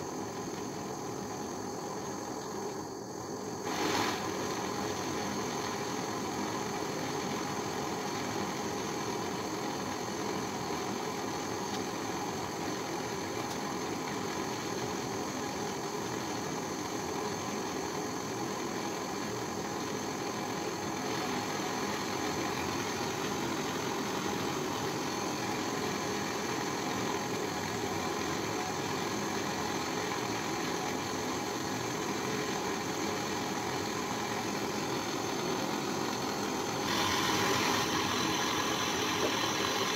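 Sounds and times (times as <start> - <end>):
gas torch roaring: 0.0 - 39.9.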